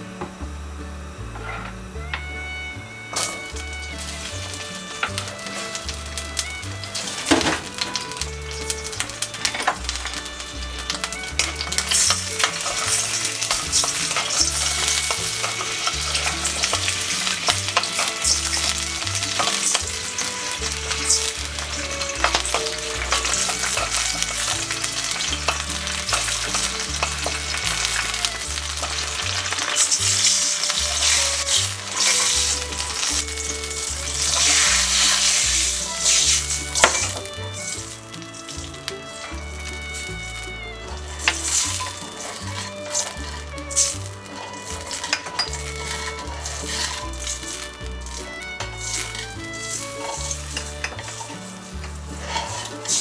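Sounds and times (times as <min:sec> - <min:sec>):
aromatics sizzling in hot oil: 0:00.0 - 0:53.0
wooden spatula scraping a pot: 0:03.2 - 0:53.0.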